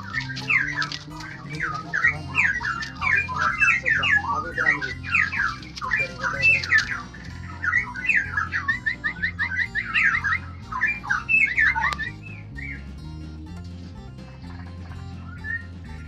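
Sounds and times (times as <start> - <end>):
background music with low notes: 0.0 - 16.0
songbird warbling and chirping: 0.0 - 16.0.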